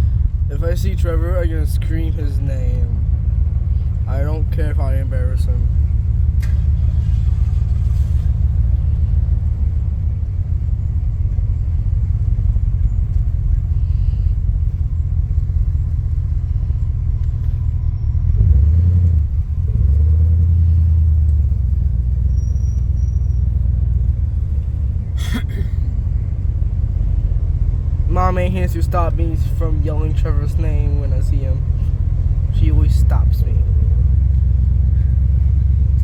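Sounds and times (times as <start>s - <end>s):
car engine and exhaust rumble: 0.0s - 36.0s.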